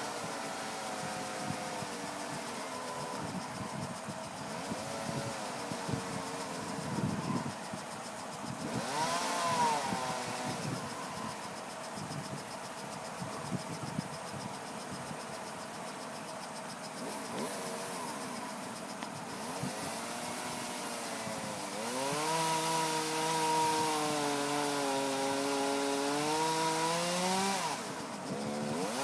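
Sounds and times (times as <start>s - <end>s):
chainsaw engine idling and revving: 0.0s - 11.8s, 17.0s - 29.0s.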